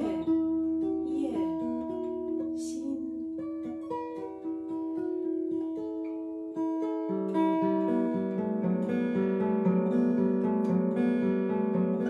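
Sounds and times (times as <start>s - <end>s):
acoustic guitar picked melody: 0.0s - 12.0s.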